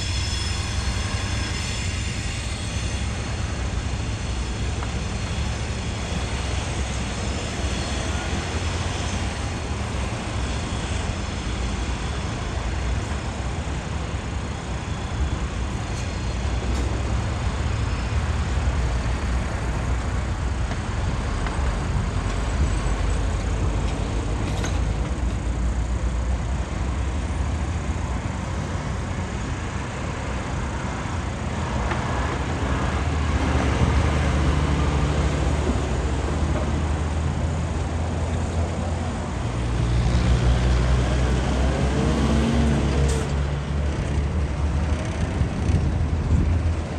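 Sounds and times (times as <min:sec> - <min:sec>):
low diesel engine drone: 0:00.0 - 0:46.9
road traffic passing: 0:00.0 - 0:46.9.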